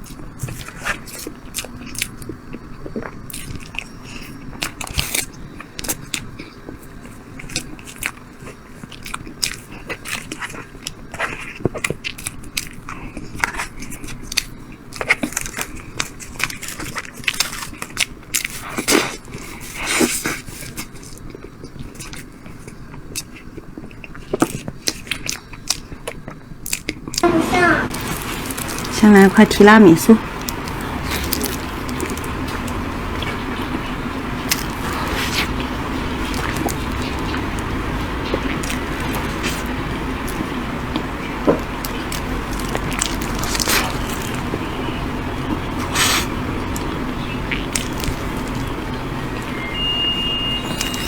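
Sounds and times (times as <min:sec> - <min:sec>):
close-miked chewing and biting: 0:00.0 - 0:27.3, 0:27.9 - 0:49.8, 0:50.6 - 0:51.0
food crunching: 0:00.0 - 0:27.3, 0:27.9 - 0:51.0.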